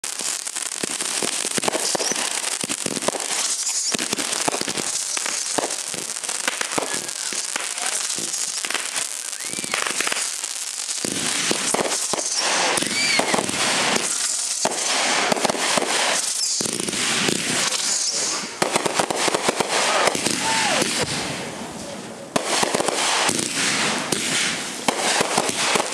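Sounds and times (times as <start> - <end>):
fireworks crackling: 0.0 - 25.9
fireworks whistling: 0.0 - 25.9.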